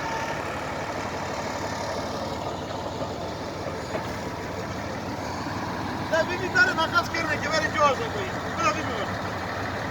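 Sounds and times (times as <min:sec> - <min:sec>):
large engine idling: 0:00.0 - 0:09.9.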